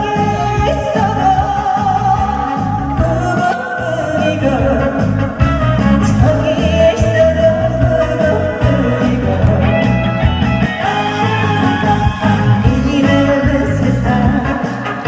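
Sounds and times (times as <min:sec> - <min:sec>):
amplified music with steady beat: 0:00.0 - 0:15.0
woman singing through pa: 0:00.0 - 0:15.0.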